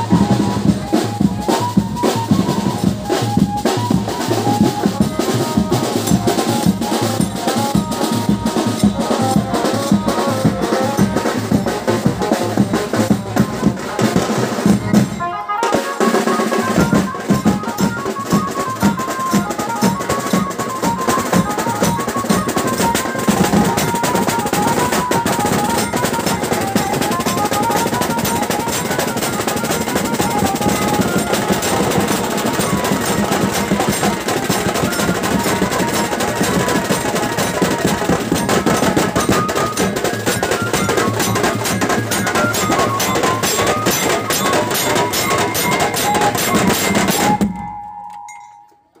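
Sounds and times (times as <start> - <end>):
snare drums: 0.0 - 48.1
tune played over drums: 0.0 - 48.3.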